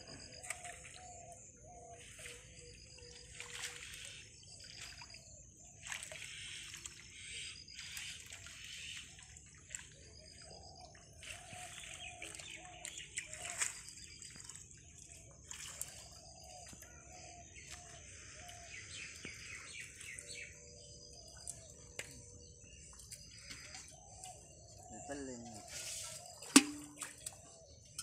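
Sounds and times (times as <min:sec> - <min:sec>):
birds chirping: 0:00.0 - 0:28.0
water splashing and dripping: 0:00.0 - 0:28.0.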